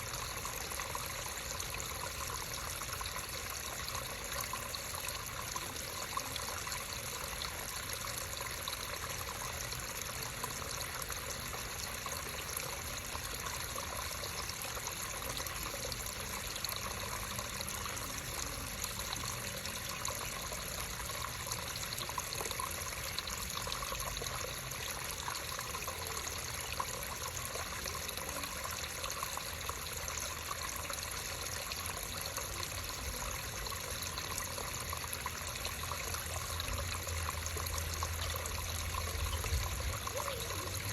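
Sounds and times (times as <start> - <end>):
creek water babbling: 0.0 - 40.9.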